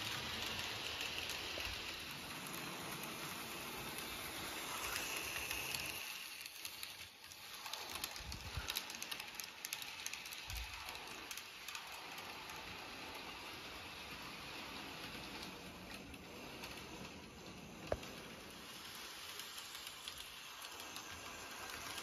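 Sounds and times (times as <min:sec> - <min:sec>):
model train hiss: 0:00.0 - 0:22.0
train wheels clicking and rattling: 0:00.0 - 0:22.0.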